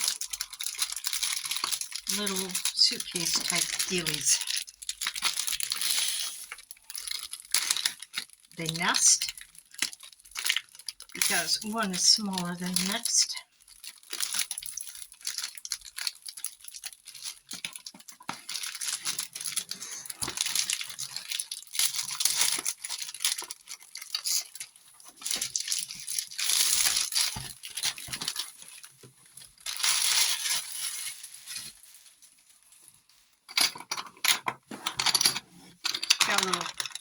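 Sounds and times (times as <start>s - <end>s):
packaging crinkling and tearing: 0.0s - 33.5s.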